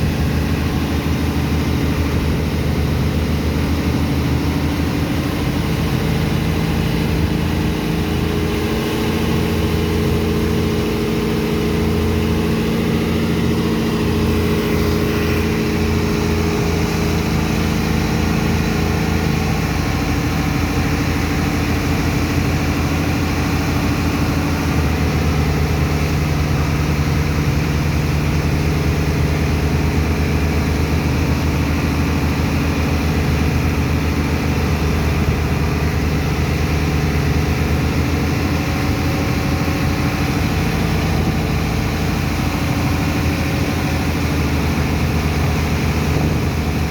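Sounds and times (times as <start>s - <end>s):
steady rushing noise: 0.0s - 28.4s, 36.7s - 46.9s
heavy pump engine running: 0.0s - 46.9s.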